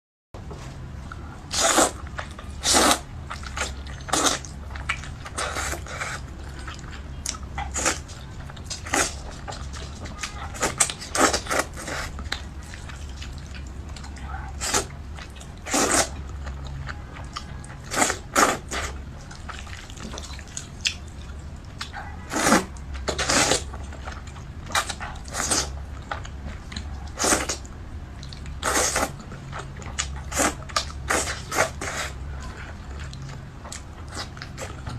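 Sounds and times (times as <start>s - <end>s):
steady low hum: 0.4s - 34.9s.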